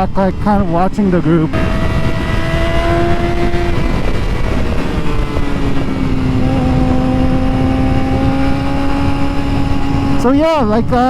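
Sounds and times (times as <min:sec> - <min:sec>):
motorcycle engine running: 0:00.0 - 0:10.8
wind rush on microphone: 0:00.0 - 0:11.0.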